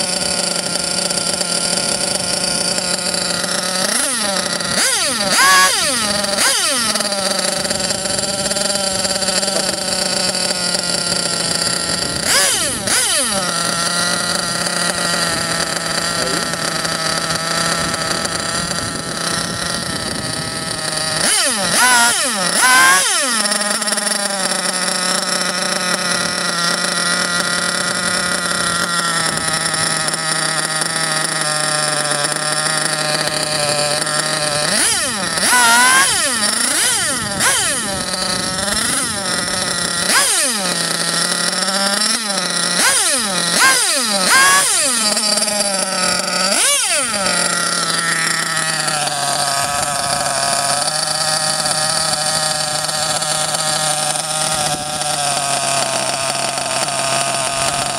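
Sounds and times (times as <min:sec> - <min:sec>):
engine throttle blips: 0:00.0 - 0:57.9
model engine high idle: 0:00.0 - 0:57.9.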